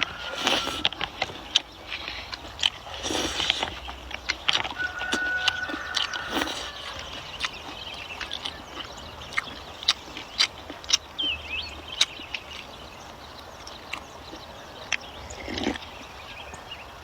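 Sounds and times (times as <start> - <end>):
birds chirping: 0.0 - 17.0
faint steady background noise: 0.0 - 17.0.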